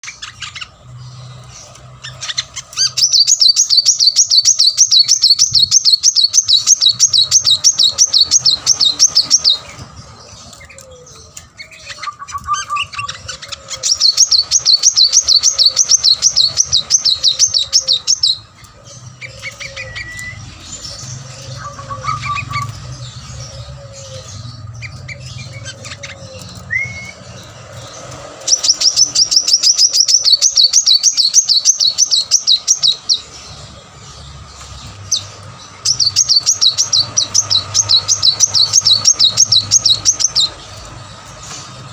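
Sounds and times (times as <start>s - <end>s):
bird singing rapid high trills: 0.0s - 41.9s.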